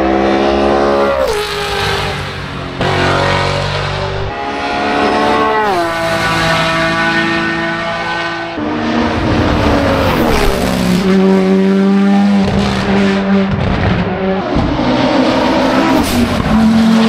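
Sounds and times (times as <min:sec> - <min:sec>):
race car engine downshifting: 0:00.0 - 0:17.0.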